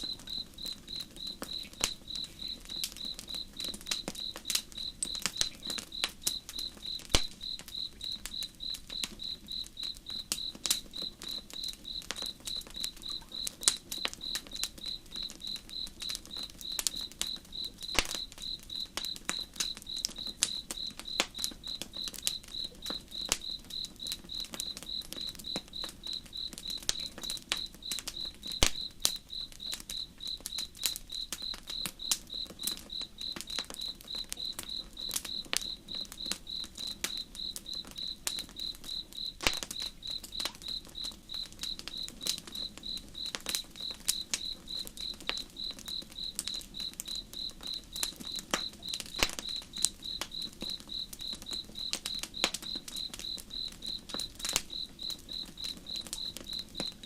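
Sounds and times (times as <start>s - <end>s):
campfire crackling and popping: 0.0s - 57.0s
cricket chirping: 0.0s - 57.0s.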